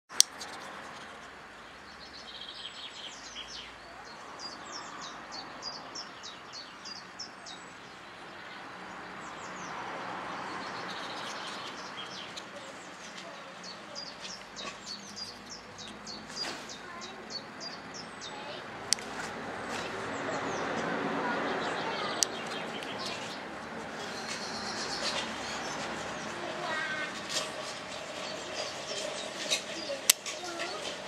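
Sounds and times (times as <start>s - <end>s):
outdoor background hiss: 0.1s - 31.0s
songbird chirping: 0.2s - 31.0s.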